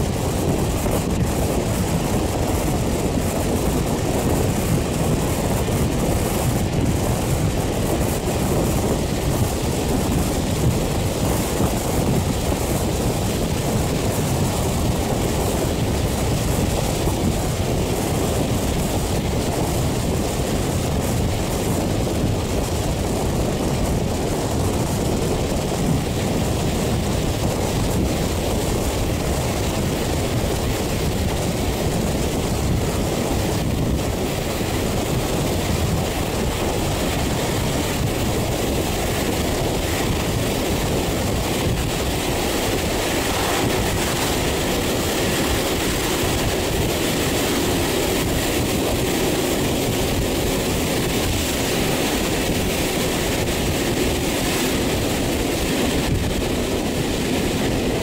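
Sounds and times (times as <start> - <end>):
moving train running noise: 0.0 - 58.0
wind on microphone: 0.0 - 58.0
wind rushing: 0.0 - 58.0.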